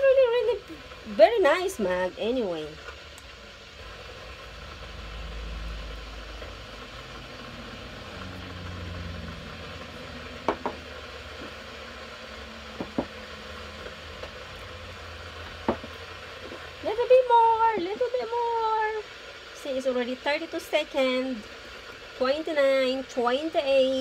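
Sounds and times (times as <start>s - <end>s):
water heating toward the boil: 0.0s - 24.0s.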